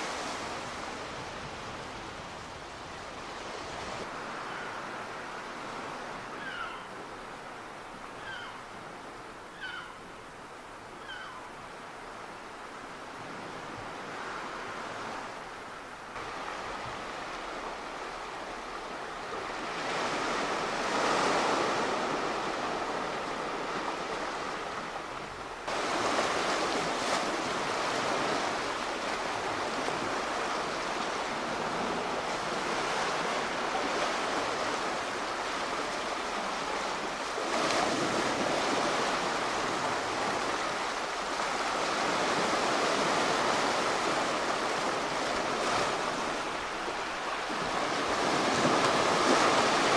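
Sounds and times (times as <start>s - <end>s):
sea waves breaking on shore: 0.0s - 49.9s.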